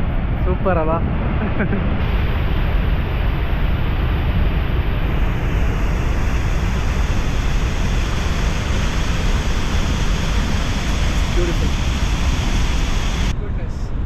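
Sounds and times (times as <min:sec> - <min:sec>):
waterfall roaring: 0:01.8 - 0:13.3.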